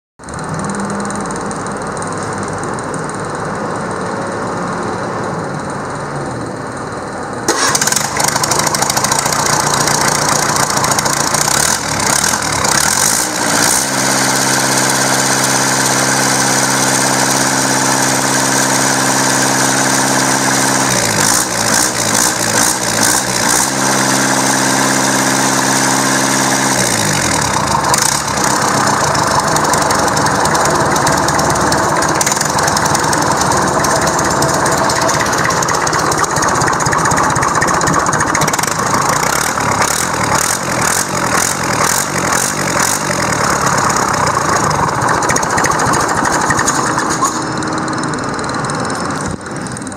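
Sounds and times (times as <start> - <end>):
diesel engine running: 0.2 - 49.9.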